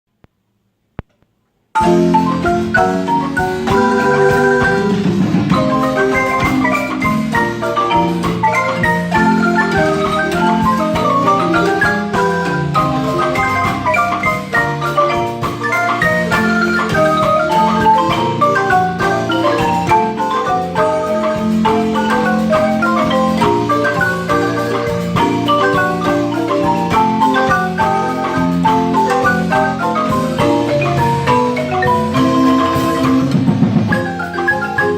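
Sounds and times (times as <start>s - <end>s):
marimba ensemble playing: 1.8s - 34.9s.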